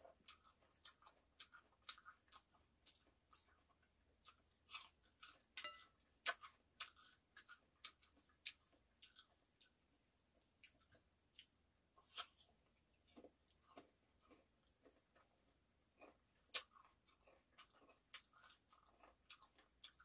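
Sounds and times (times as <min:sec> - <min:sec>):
mouth chewing clicks and smacks: 0:00.1 - 0:09.8, 0:10.4 - 0:20.0.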